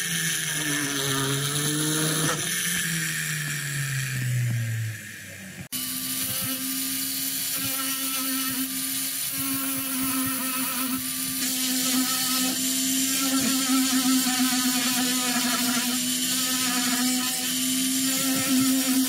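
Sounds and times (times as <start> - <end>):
rotary handpiece motor whirring: 0.0 - 19.0.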